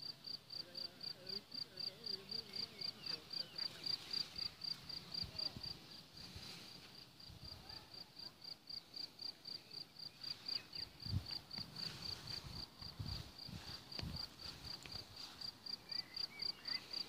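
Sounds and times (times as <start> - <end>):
cricket chirping: 0.0 - 6.0, 6.9 - 17.0.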